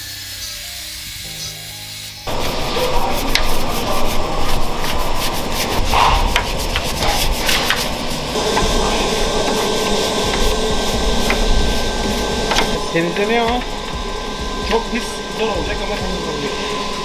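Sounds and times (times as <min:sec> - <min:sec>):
brush scrubbing metal: 0:00.0 - 0:14.0.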